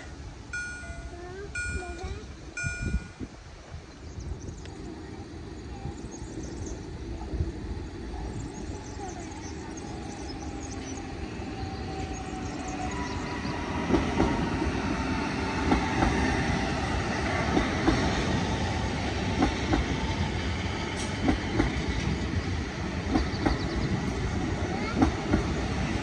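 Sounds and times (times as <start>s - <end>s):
train rolling rumble: 0.0s - 26.0s.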